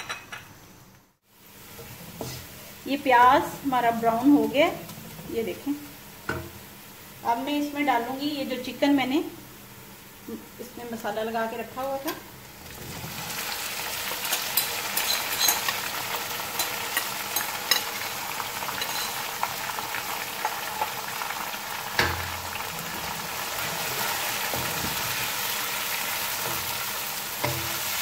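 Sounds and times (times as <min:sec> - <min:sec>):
chicken sizzling in hot oil: 0:01.3 - 0:28.0.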